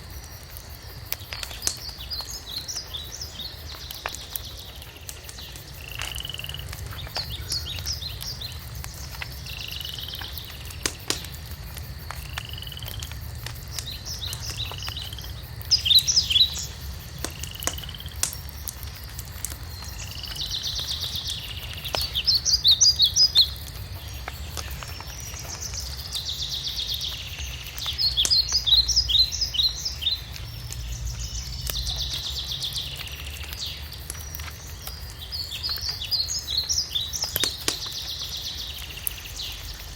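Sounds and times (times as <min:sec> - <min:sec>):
wood fire crackling: 0:00.0 - 0:39.9
songbirds singing: 0:01.1 - 0:39.9.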